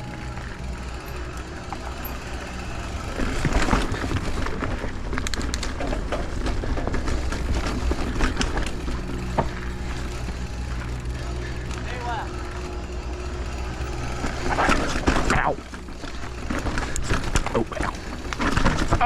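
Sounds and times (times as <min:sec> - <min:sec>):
bike rattling and clicking: 0:00.0 - 0:19.0
bike tyres grinding over rock: 0:00.0 - 0:19.0
steady low hum: 0:00.0 - 0:19.0.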